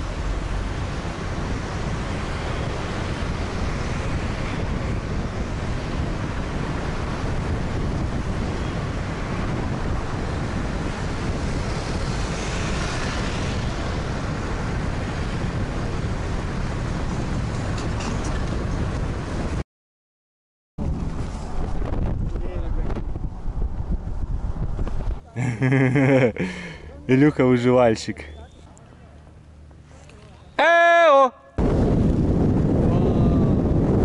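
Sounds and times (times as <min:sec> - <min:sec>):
road and traffic noise: 0:00.0 - 0:19.6, 0:20.8 - 0:34.0
wind rushing over microphone: 0:00.0 - 0:19.6, 0:20.8 - 0:27.4, 0:31.5 - 0:34.0.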